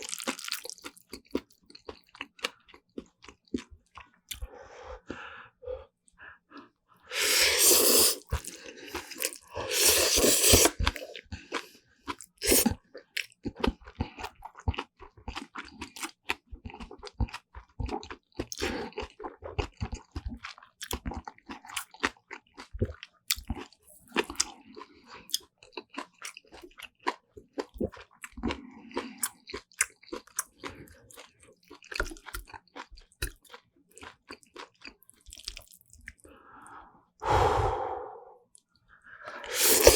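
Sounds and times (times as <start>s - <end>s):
wet chewing and crunching: 0.0s - 5.2s, 6.6s - 36.3s, 39.4s - 39.9s.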